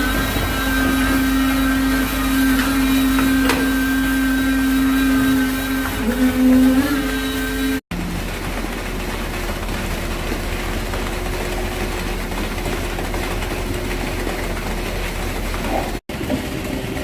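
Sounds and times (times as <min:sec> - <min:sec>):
machinery motor whine: 0:00.0 - 0:17.0.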